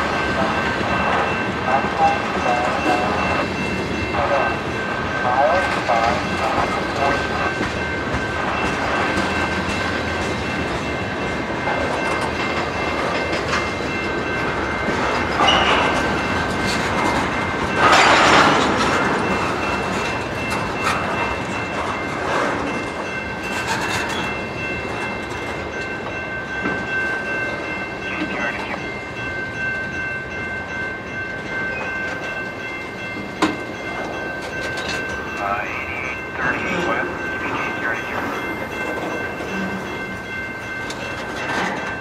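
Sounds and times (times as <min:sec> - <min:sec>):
freight train wheels clattering: 0:00.0 - 0:35.4, 0:36.2 - 0:42.0.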